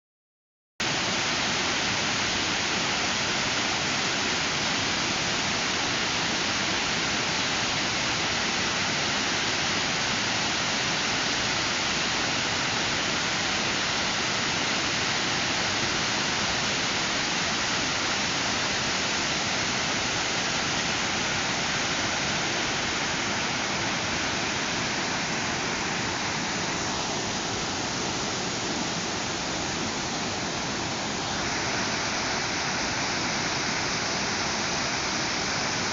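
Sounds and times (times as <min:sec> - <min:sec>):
waterfall rushing: 0:00.9 - 0:35.9.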